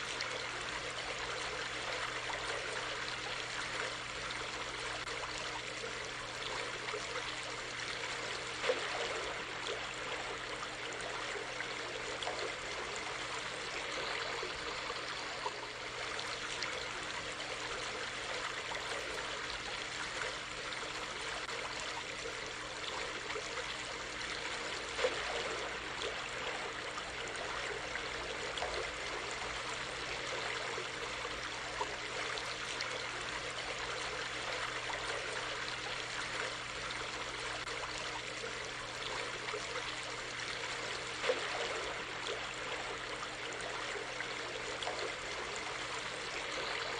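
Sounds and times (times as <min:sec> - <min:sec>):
creek trickling over stones: 0:00.0 - 0:46.9
water splashes: 0:00.0 - 0:46.9.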